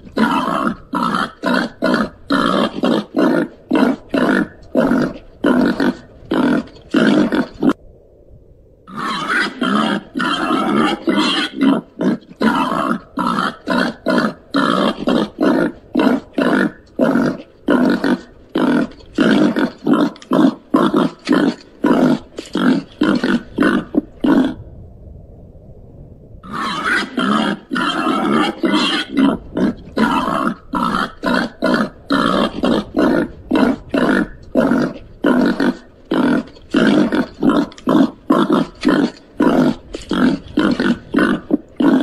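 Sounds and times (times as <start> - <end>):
animal short calls: 0.0 - 7.8, 8.9 - 24.6, 26.4 - 42.0.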